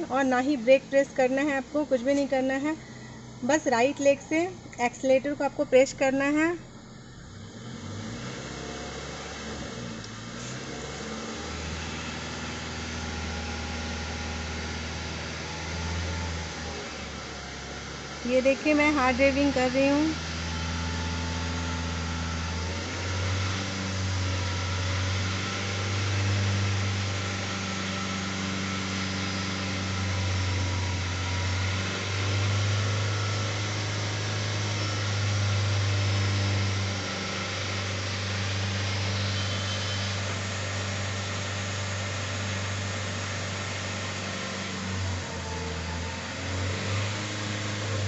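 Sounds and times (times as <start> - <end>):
car engine revving: 6.6 - 48.0.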